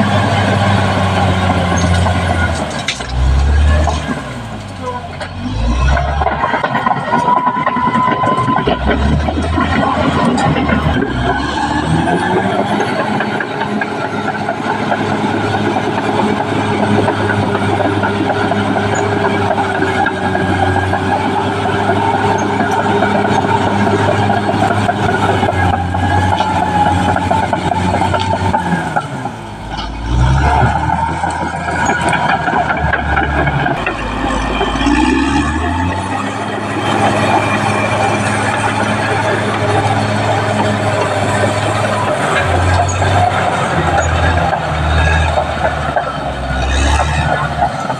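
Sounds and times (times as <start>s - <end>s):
bulldozer diesel engine revving: 0.0s - 47.9s.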